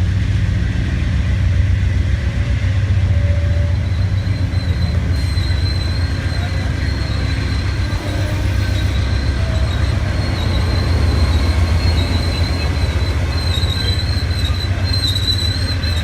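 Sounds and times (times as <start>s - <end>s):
diesel locomotive rumble: 0.0s - 16.0s
train wheels squealing: 2.4s - 16.0s.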